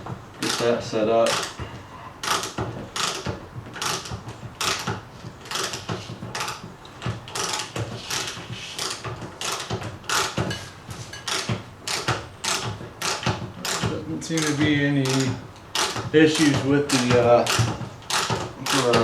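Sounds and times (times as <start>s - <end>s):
chain hoist ratchet clicking: 0.4s - 19.0s.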